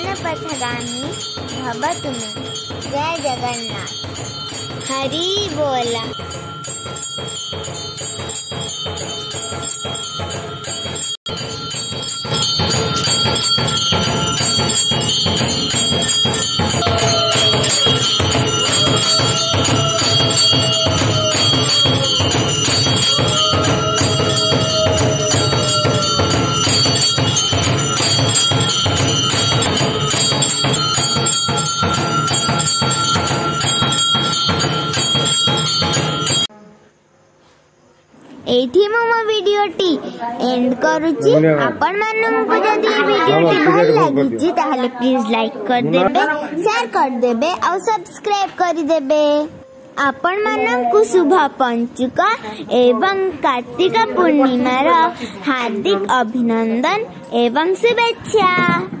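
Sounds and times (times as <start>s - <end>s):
temple bells ringing rapidly: 0.0s - 36.5s, 38.6s - 59.0s.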